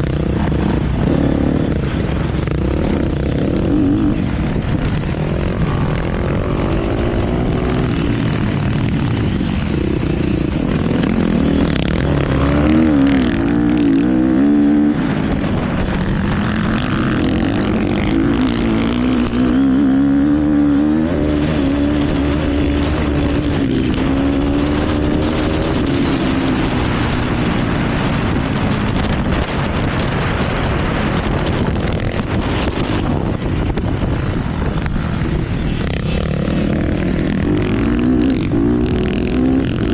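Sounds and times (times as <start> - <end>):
motocross bike engine revving: 0.0 - 28.4, 35.0 - 39.9
wind noise: 0.0 - 39.9.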